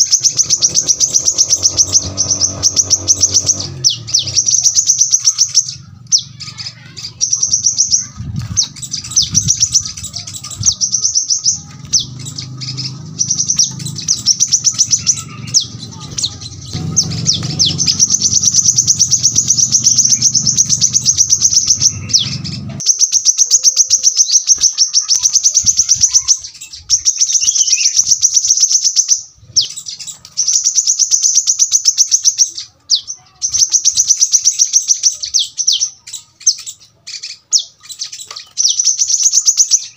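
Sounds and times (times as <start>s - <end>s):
sunbird singing rapid high notes: 0.0s - 39.9s.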